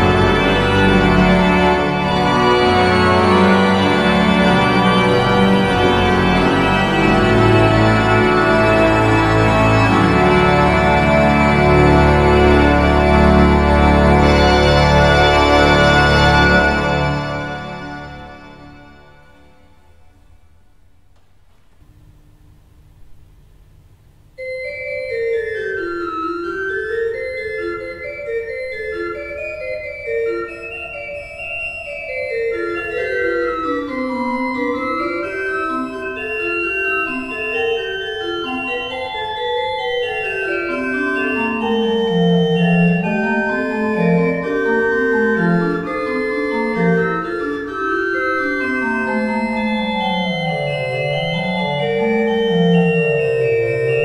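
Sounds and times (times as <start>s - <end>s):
organ music: 0.0s - 20.4s, 24.4s - 54.0s.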